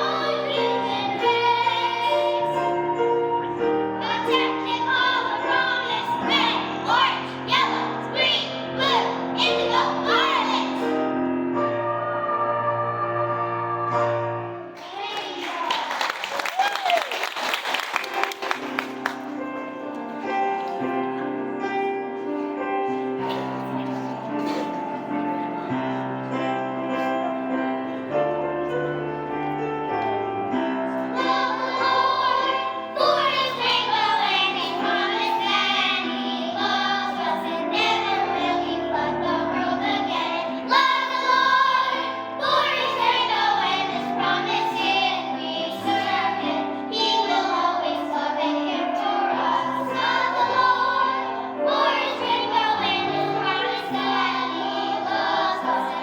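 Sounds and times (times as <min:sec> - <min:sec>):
children's choir singing: 0:00.0 - 0:16.3, 0:18.4 - 0:56.0.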